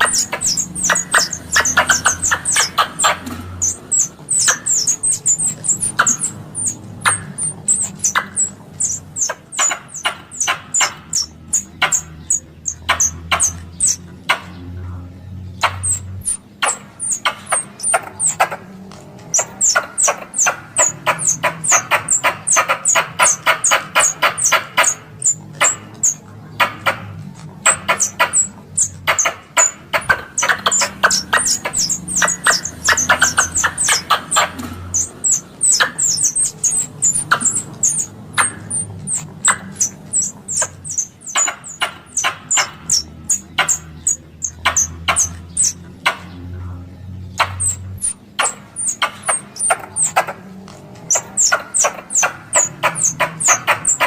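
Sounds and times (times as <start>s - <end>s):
squirrel chattering call: 0.0s - 54.0s.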